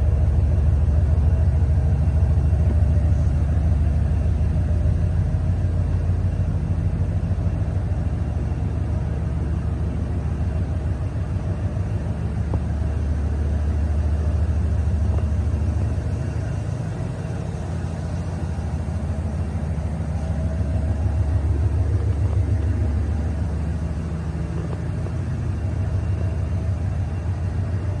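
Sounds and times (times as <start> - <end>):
pickup truck engine running: 0.0 - 28.0.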